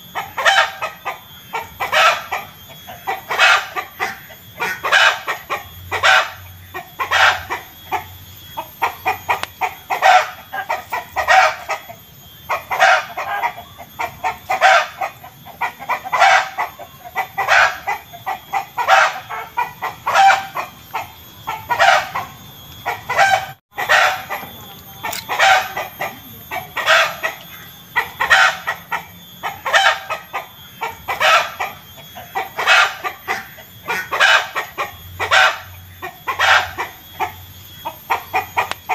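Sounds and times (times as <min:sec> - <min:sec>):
chicken cackling: 0:00.0 - 0:38.9.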